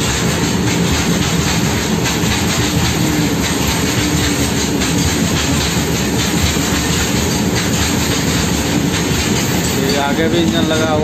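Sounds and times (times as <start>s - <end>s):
train wheels rumbling on rails: 0.0s - 11.0s
wheel clacks: 0.0s - 11.0s.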